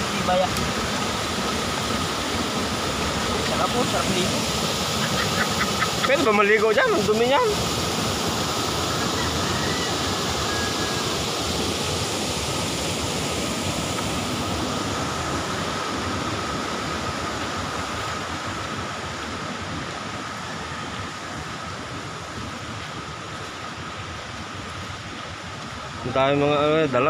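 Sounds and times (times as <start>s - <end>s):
waterfall rushing into pool: 0.0s - 27.0s.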